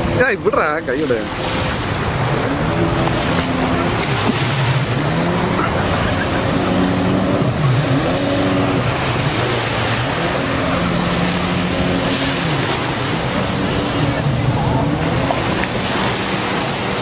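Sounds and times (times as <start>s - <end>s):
jet ski engines running: 0.0s - 17.0s
splashing water and surf: 0.0s - 17.0s.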